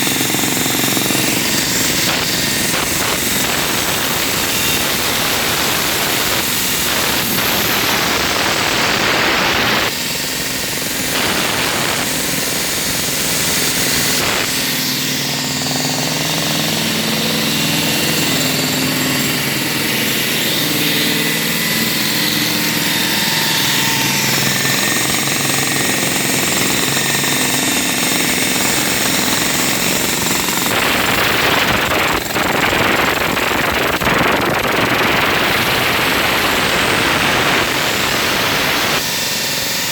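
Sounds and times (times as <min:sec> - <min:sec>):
jackhammer breaking concrete: 0:00.0 - 0:39.9
steady engine drone: 0:00.0 - 0:39.9.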